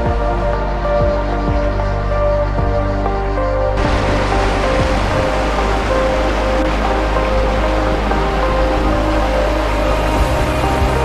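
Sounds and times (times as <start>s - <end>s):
deep bass: 0.0s - 11.0s.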